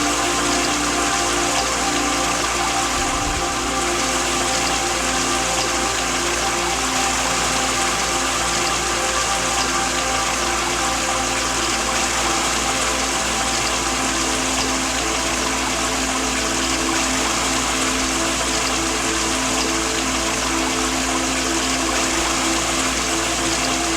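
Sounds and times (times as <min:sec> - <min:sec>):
calm melody with held notes: 0:00.0 - 0:23.9
waterfall rushing: 0:00.0 - 0:23.9.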